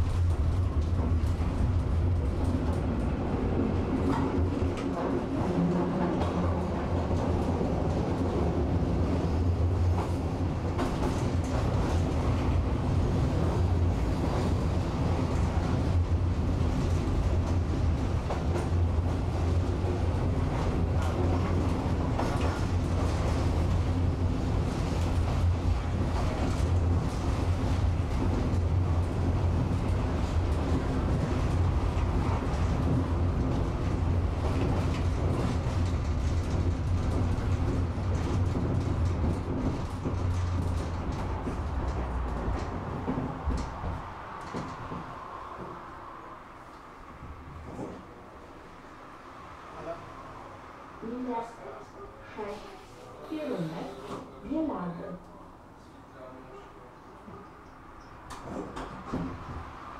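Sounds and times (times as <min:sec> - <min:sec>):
faint clicks from rails: 0:00.0 - 0:48.2, 0:57.2 - 0:59.9
tram wheels and motors rumbling: 0:00.0 - 0:51.5, 0:57.1 - 0:59.9.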